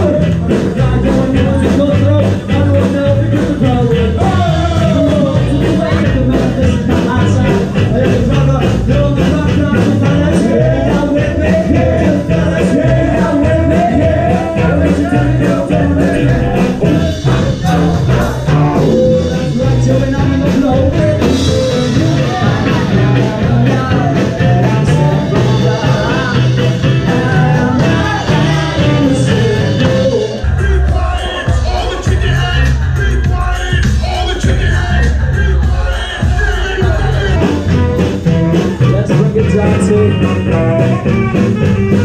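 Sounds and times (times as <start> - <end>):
upbeat song with singing: 0.0 - 42.0.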